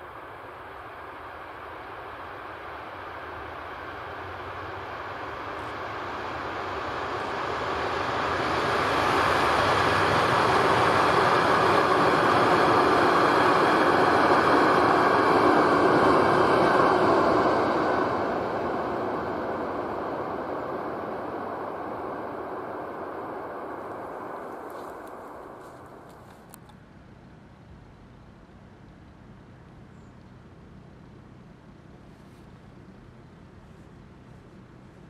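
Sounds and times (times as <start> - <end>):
freight train passing on rails: 0.0 - 29.9.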